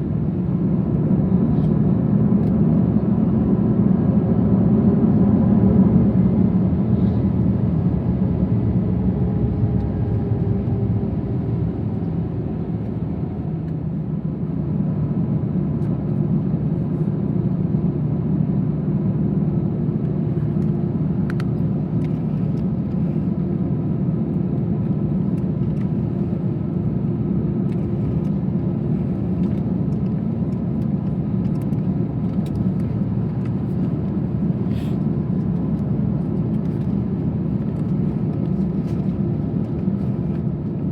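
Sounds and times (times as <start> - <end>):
airplane engine rumble in cabin: 0.0 - 40.9.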